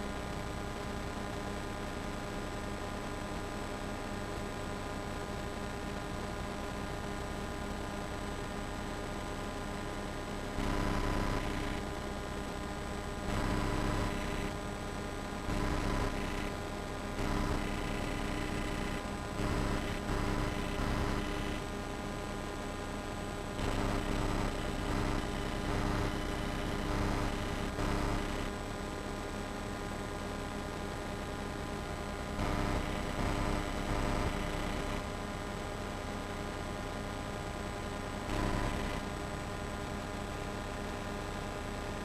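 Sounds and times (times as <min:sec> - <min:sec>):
electrical hum and hiss: 0:00.0 - 0:42.0.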